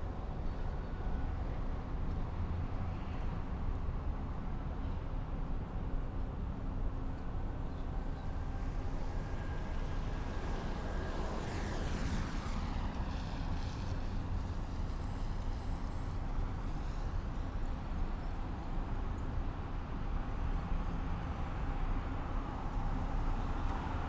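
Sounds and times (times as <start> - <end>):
low rumble of city traffic: 0.0 - 24.0.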